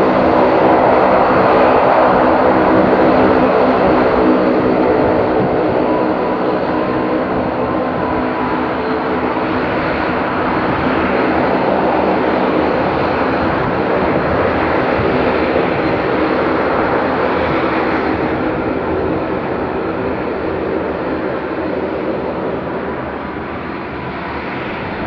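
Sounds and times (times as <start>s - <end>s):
airliner engines droning: 0.0s - 25.0s.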